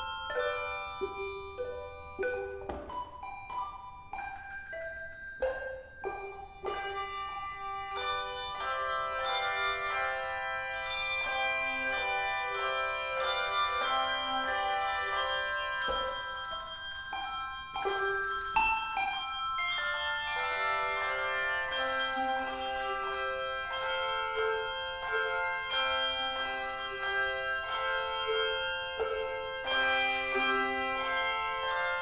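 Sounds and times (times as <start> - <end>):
handbell choir ringing: 0.0 - 32.0.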